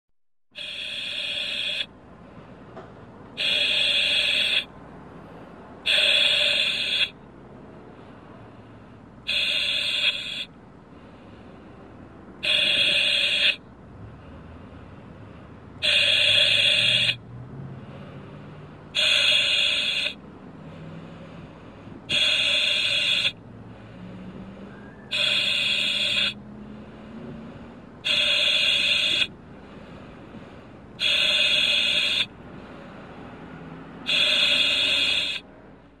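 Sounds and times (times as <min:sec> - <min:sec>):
breathing through oxygen mask: 0:00.6 - 0:02.6, 0:03.2 - 0:35.9.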